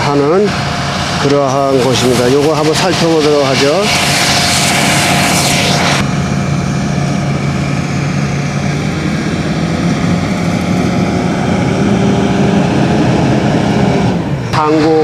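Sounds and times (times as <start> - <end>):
heavy engine droning: 0.0 - 15.0.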